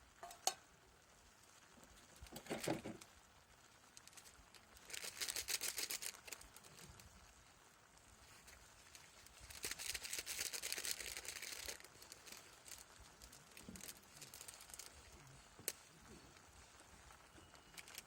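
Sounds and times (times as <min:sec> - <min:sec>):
fine crackling: 0:01.4 - 0:18.0
rustling and crinkling: 0:01.7 - 0:18.0.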